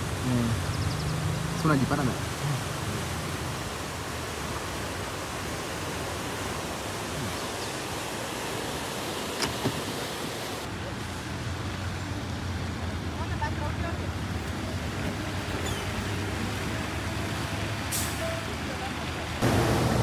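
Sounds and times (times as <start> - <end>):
flood water rushing and churning: 0.0 - 20.0.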